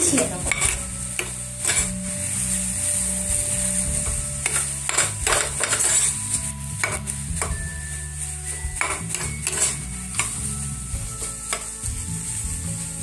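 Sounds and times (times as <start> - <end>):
metal spatula scraping frying pan: 0.0 - 13.0
paste sizzling in hot oil: 0.0 - 13.0.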